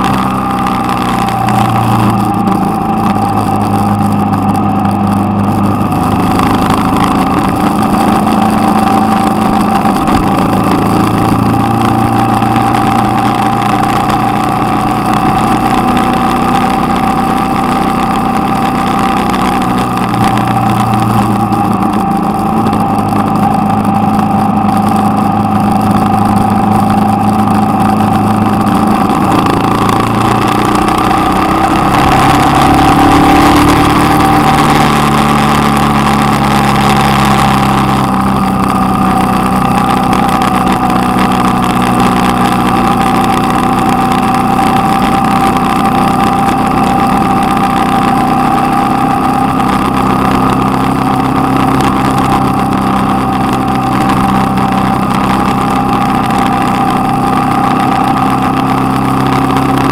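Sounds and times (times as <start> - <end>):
motorcycle engine running: 0.0 - 59.9
steady rushing noise: 0.0 - 59.9.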